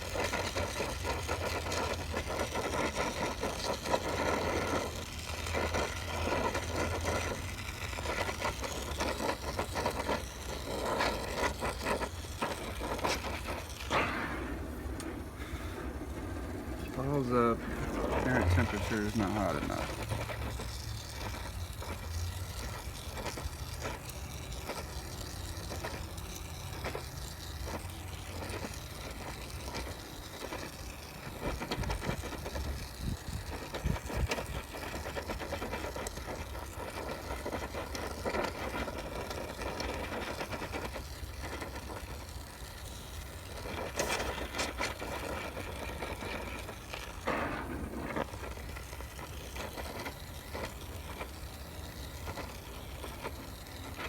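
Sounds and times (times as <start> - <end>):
gas torch burning: 0.0 - 54.0.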